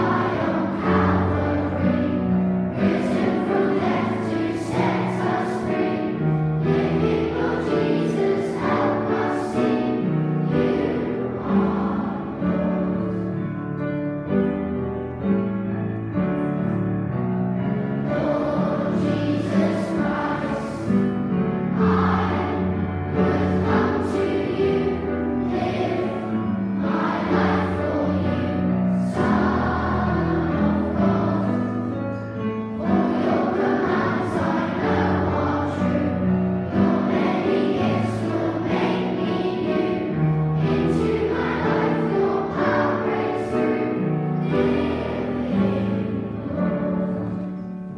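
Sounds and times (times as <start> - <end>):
children singing together: 0.0 - 13.6, 18.0 - 47.8
grand piano playing a hymn: 0.0 - 47.9.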